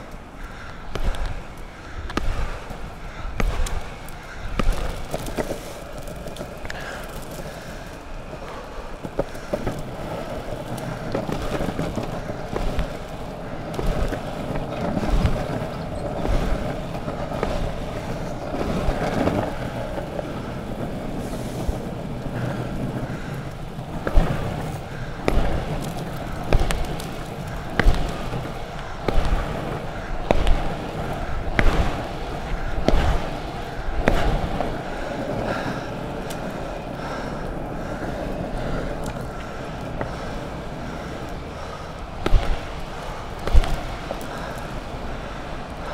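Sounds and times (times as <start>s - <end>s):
longboard wheels rolling on tarmac: 0.0s - 45.9s.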